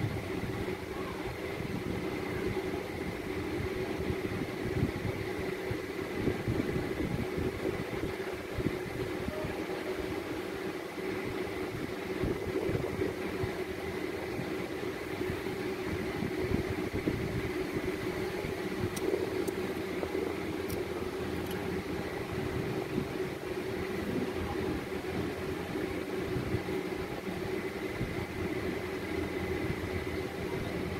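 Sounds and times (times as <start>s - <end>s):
steady machine hum: 0.0s - 30.9s.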